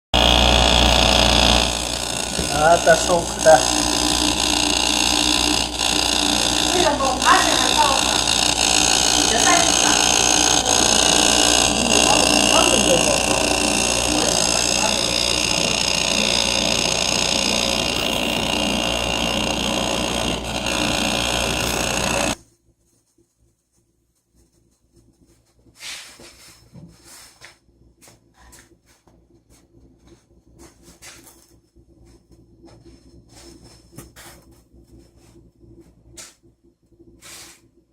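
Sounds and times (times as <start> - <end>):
refrigerator compressor humming and whining: 0.2 - 22.4, 27.8 - 37.9.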